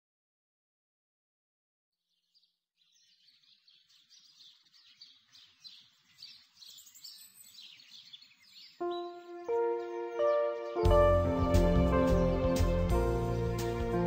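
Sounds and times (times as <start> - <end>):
faint birds chirping: 2.0 - 14.0.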